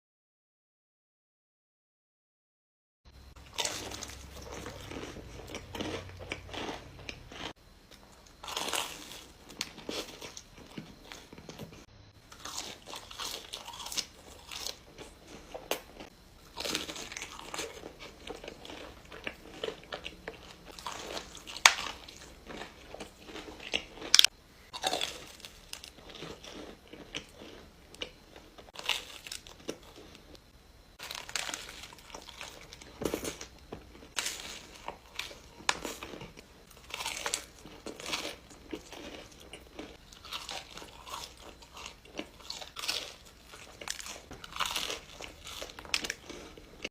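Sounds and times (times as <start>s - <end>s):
crunchy food crunching: 3.4s - 46.9s.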